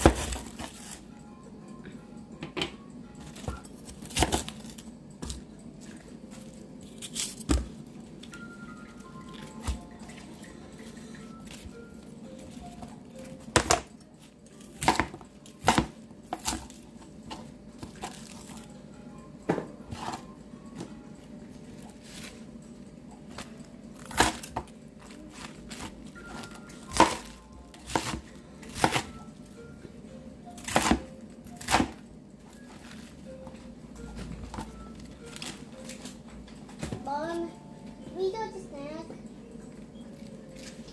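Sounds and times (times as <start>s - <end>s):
faint background music: 0.0s - 40.9s.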